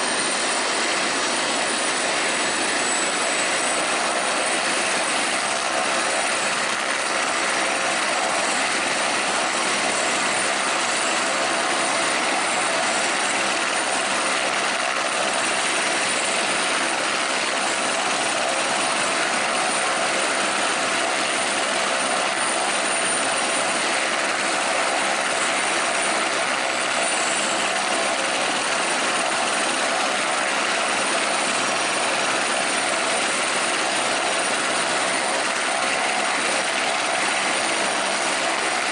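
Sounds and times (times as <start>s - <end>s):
helicopter rotor rush: 0.0s - 38.9s
helicopter turbine whine: 0.0s - 38.9s.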